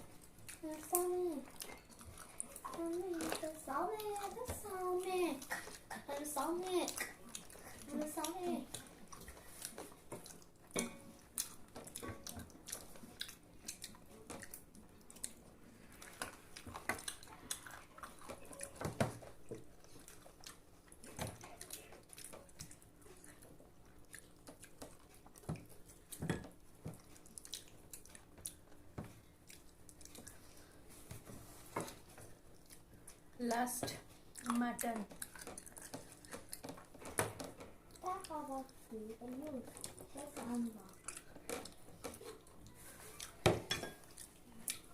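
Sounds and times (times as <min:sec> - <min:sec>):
person chewing food: 0:00.0 - 0:33.4, 0:34.0 - 0:44.9.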